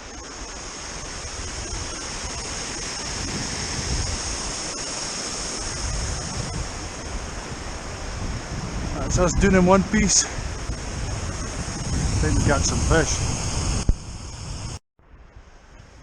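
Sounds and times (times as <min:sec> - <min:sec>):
waves washing: 0:00.0 - 0:14.8.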